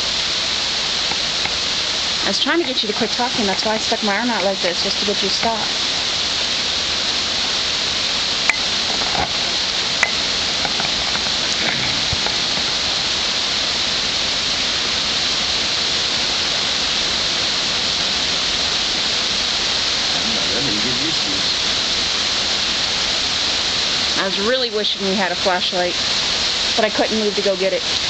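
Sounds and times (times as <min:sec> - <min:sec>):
heavy rain on street: 0:00.0 - 0:28.0.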